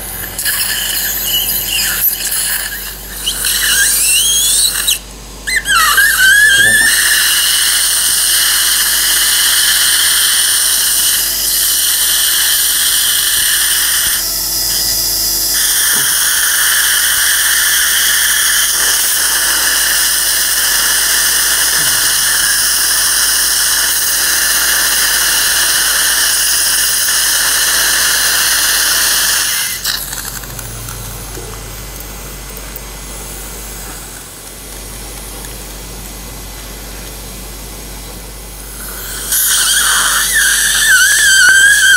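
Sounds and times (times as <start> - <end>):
high-pitched surgical drill whine: 0.0 - 31.3, 38.3 - 41.9.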